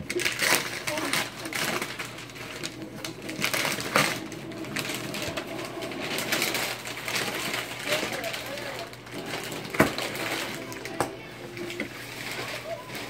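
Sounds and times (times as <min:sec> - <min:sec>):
wrapping paper rustling: 0:00.0 - 0:13.0.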